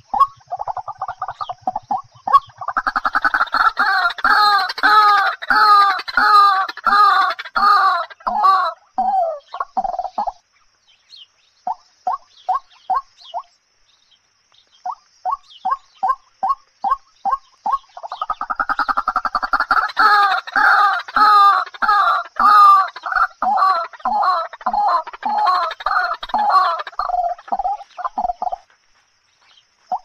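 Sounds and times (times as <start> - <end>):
bird clucking calls: 0.0 - 10.4, 11.6 - 13.5, 14.8 - 28.8, 29.4 - 30.0.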